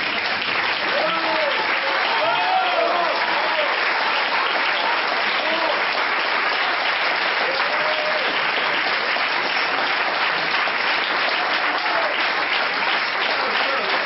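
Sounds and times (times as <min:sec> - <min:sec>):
audience applauding: 0:00.0 - 0:14.0
audience cheering: 0:00.0 - 0:14.0.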